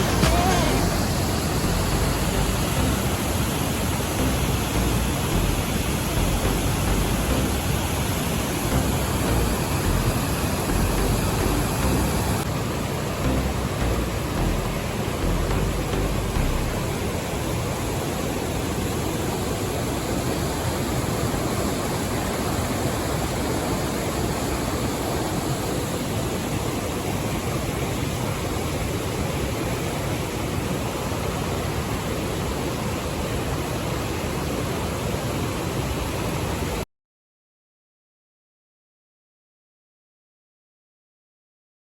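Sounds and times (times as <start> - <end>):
waterfall rushing: 0.0 - 36.7.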